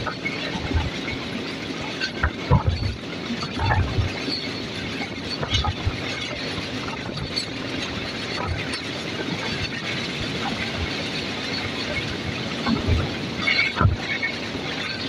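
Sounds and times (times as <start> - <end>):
train rushing at speed: 0.0 - 15.0.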